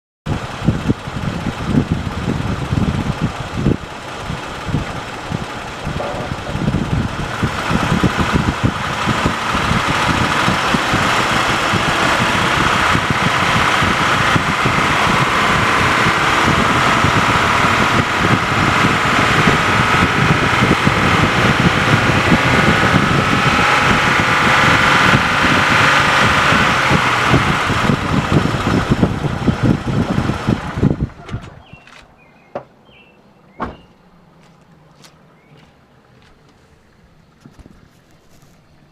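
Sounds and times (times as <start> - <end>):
car engine running: 0.3 - 38.6.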